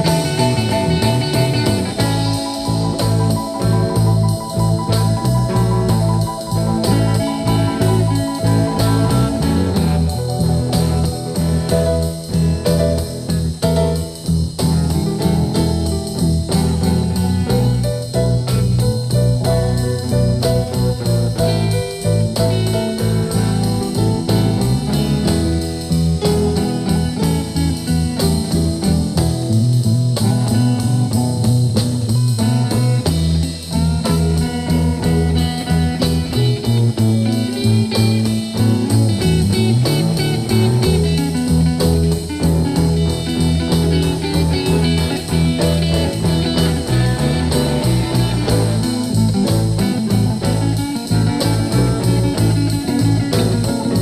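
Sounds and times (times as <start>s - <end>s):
blues guitar instrumental: 0.0s - 54.0s.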